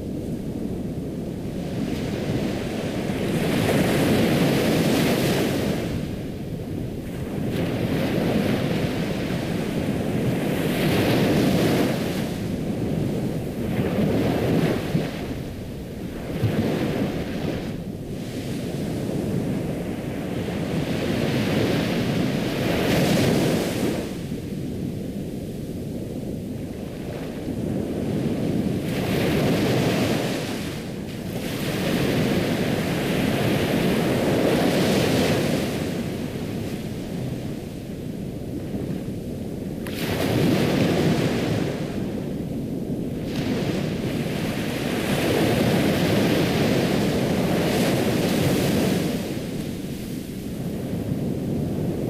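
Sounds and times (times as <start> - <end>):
waves washing onto shore: 0.0 - 52.0.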